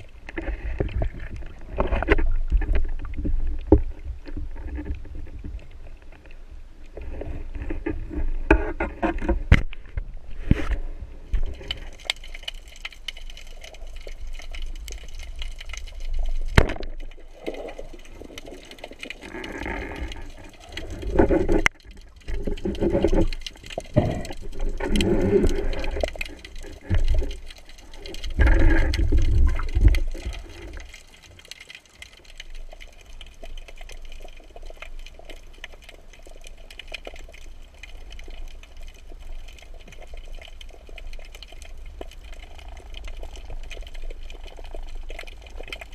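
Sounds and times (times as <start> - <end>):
low water noise: 0.0 - 45.9
water sloshing and bubbling: 0.0 - 45.9.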